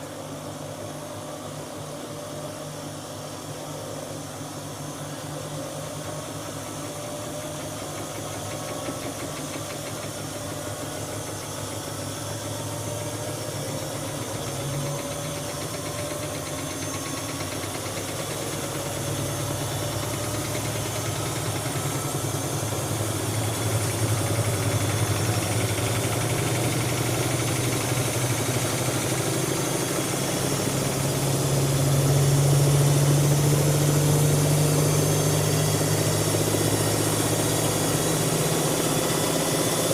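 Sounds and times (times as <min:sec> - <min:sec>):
washing machine spinning up: 0:00.0 - 0:39.9.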